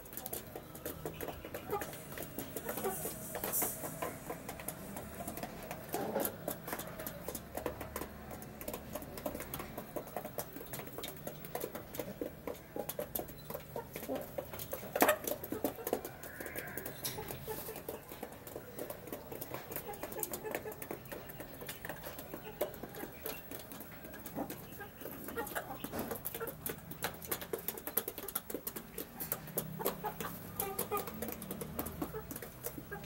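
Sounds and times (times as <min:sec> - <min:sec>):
chickens pecking beak taps: 0:00.0 - 0:33.0.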